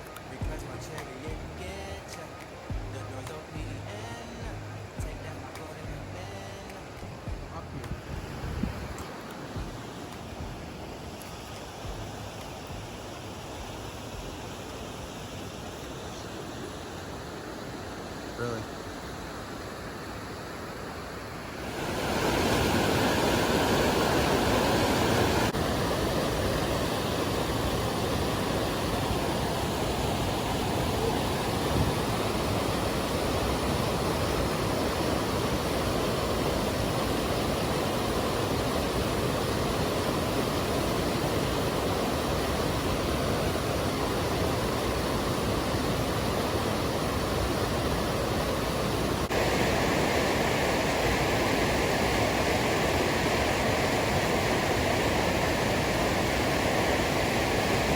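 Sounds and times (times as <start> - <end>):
rushing water: 0.0 - 57.9.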